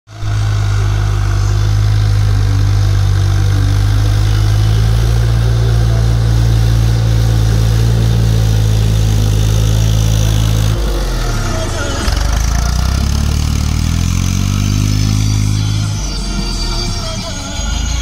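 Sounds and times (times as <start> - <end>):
tractor diesel engine droning: 0.1 - 18.0.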